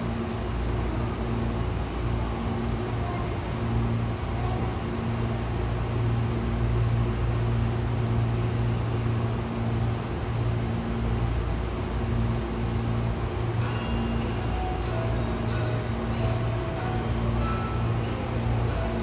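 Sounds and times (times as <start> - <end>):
air conditioning noise: 0.0 - 19.0
low electrical hum: 0.0 - 19.0.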